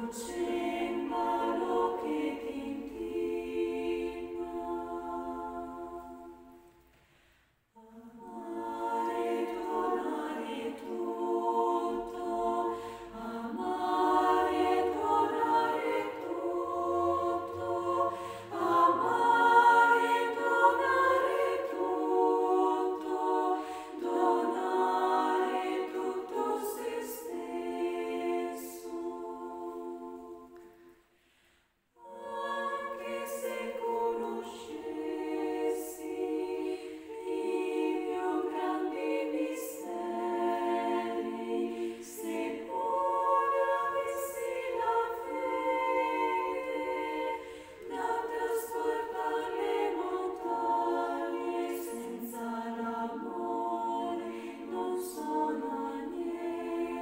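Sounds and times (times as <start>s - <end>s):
choir singing unaccompanied: 0.0s - 6.9s, 7.7s - 31.0s, 32.0s - 57.0s.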